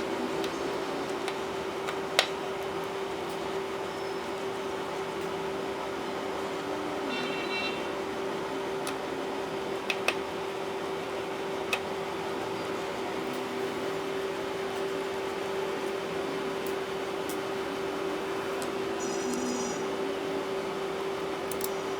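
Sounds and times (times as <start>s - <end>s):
low hum and hiss: 0.0s - 21.9s.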